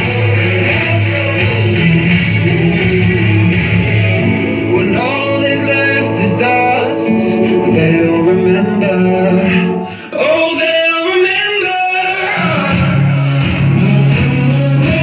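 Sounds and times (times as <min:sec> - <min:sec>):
song with male singer and guitars: 0:00.0 - 0:15.0.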